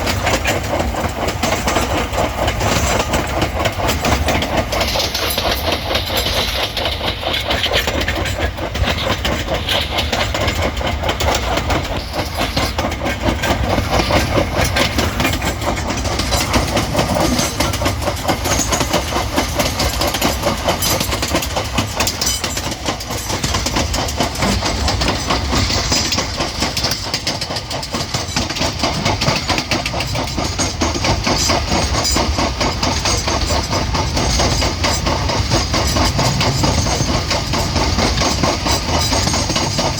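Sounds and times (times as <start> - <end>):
train wheels rattling: 0.0 - 39.9.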